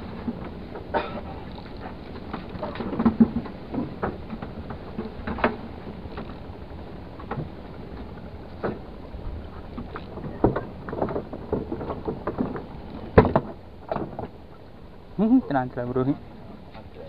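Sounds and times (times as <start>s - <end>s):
water sloshing against boat hull: 0.0s - 17.0s.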